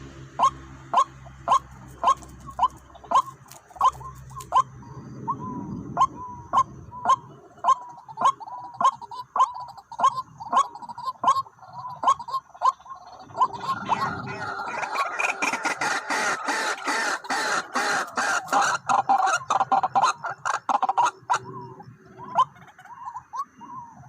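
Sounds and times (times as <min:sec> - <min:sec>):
waterhen calling: 0:00.4 - 0:24.0.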